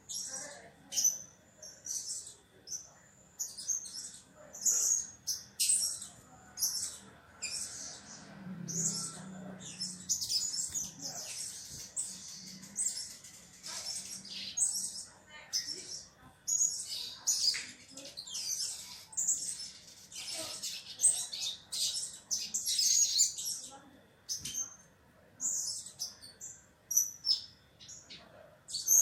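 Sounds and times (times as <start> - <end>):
bird chirping and trilling: 0.0 - 24.8, 25.4 - 29.0.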